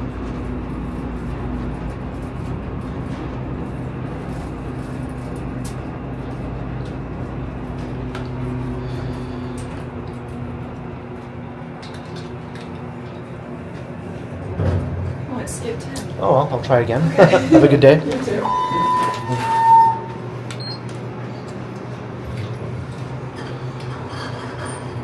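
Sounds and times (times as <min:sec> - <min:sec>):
elevator humming and rumbling: 0:00.0 - 0:25.0.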